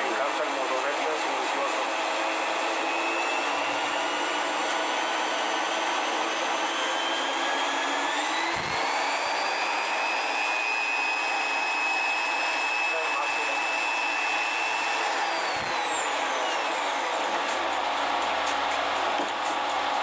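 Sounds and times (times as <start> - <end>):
grinder motor whining: 0.0 - 20.0
power generator running: 0.0 - 20.0.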